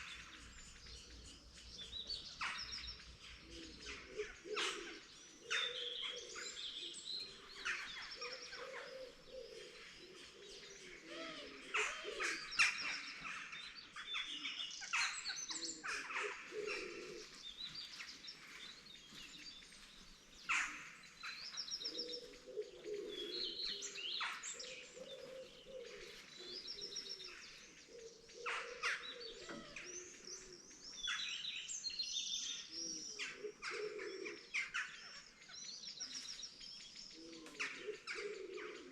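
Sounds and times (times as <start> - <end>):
low warbling bird calls: 0.0 - 31.9
songbirds chirping and trilling: 0.0 - 38.9.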